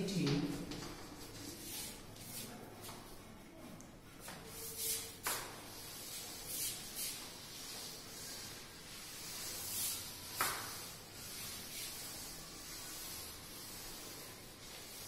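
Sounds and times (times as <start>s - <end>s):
duster wiping chalkboard: 0.3s - 3.4s, 4.1s - 15.0s.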